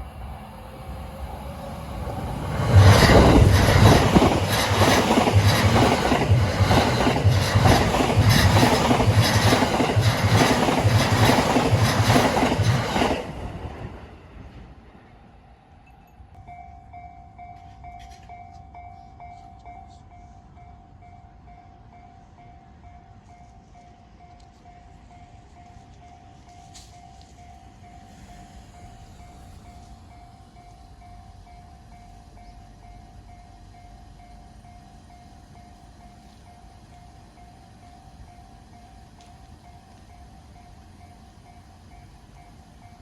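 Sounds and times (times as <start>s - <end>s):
railroad crossing alarm dinging: 1.8s - 13.4s, 15.0s - 43.0s.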